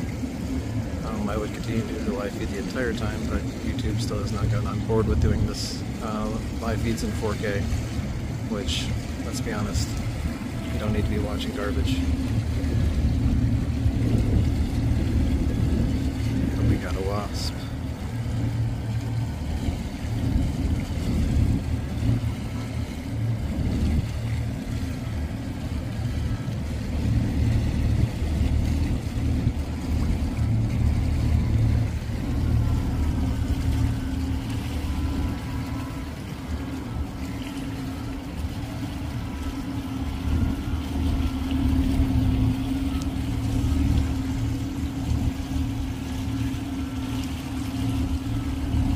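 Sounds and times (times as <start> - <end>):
engine rumbling with hum: 0.0 - 48.9.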